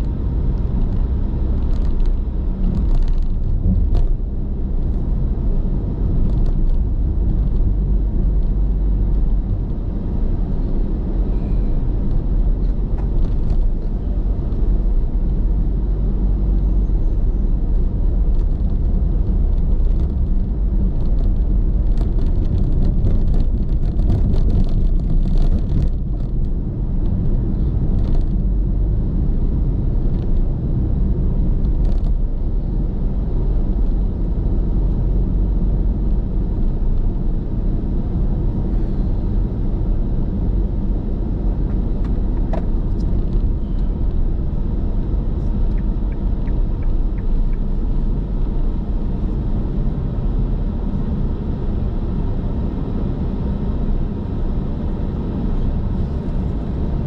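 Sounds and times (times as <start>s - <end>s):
car cabin engine and tyre rumble: 0.0s - 57.0s.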